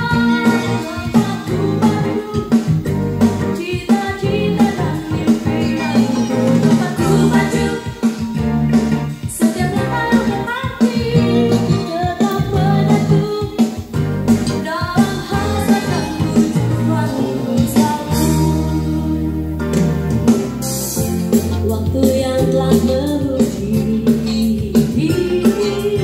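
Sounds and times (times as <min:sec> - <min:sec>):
song with singing and guitar: 0:00.0 - 0:26.0.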